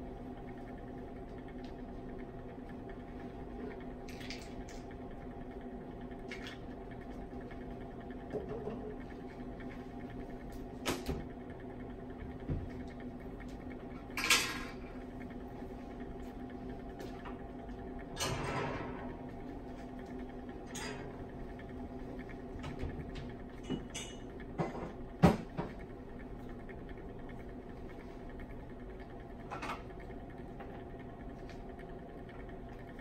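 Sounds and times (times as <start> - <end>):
room hum: 0.0 - 33.0.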